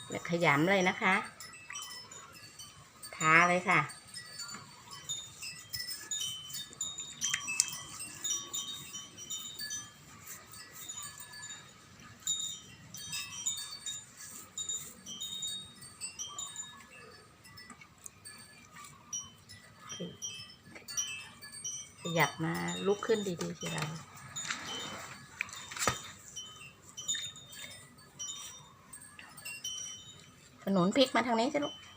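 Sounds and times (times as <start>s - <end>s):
wind chimes tinkling: 0.0s - 31.9s.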